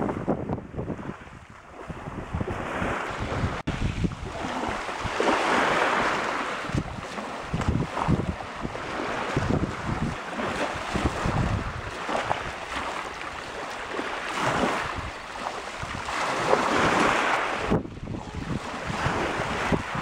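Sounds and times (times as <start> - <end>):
waves washing over shingle: 0.0 - 20.0
wind buffeting microphone: 0.0 - 20.0.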